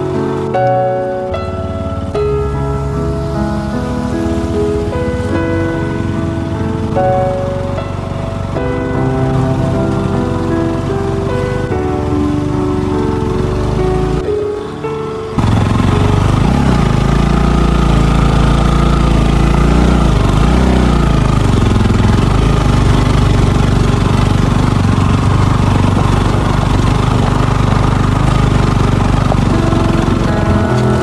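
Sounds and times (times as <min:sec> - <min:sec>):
motorcycle engine running: 0:00.0 - 0:31.0
wind and road noise: 0:00.0 - 0:31.0.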